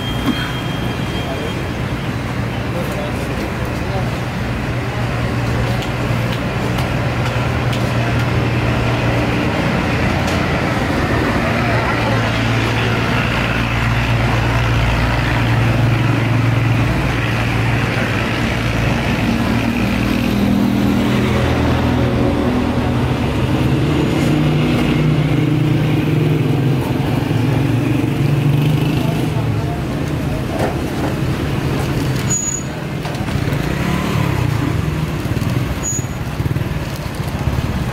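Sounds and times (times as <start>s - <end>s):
street noise: 0.0s - 37.9s.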